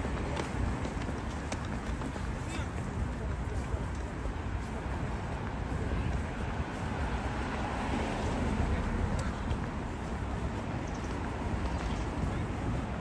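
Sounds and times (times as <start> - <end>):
passers-by talking: 0.0 - 13.0
traffic noise: 0.0 - 13.0.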